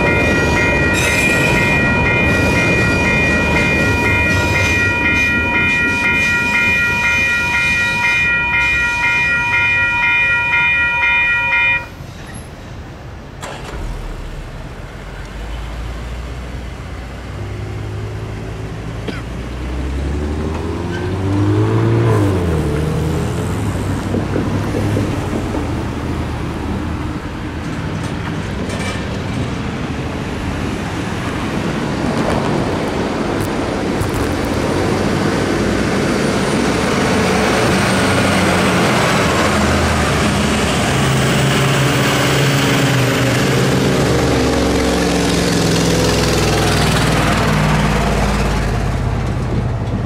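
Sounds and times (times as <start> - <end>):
car and truck engines: 0.0 - 50.0.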